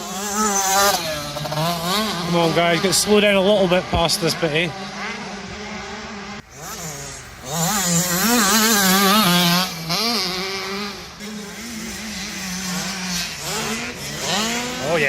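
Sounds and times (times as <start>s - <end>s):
dirt bike engines racing past: 0.0s - 15.0s.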